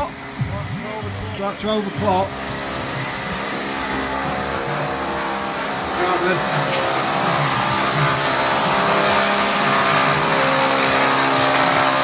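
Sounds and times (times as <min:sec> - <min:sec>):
power tool motor running: 0:00.0 - 0:12.0.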